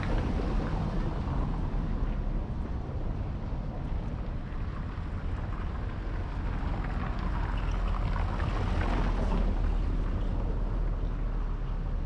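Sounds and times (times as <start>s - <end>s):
street noise: 0.0s - 12.0s
wind rumbling on microphone: 0.0s - 12.0s.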